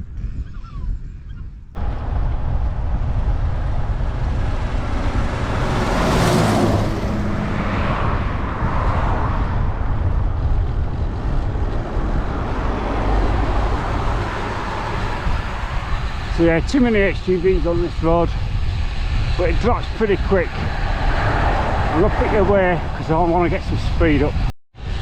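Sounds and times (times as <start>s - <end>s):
wind rumble on microphone: 0.0s - 25.0s
traffic passing by: 1.8s - 25.0s.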